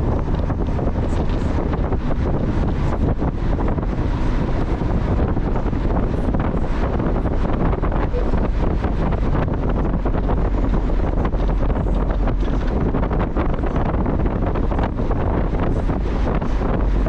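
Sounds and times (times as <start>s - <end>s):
car road and engine rumble: 0.0s - 17.0s
wind buffeting microphone: 0.0s - 17.0s.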